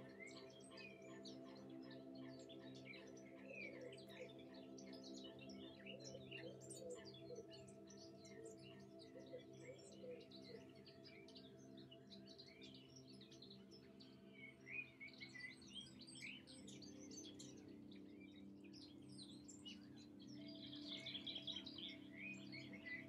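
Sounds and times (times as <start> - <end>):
small birds chirping and singing: 0.0 - 23.0
soft background music: 0.0 - 23.0.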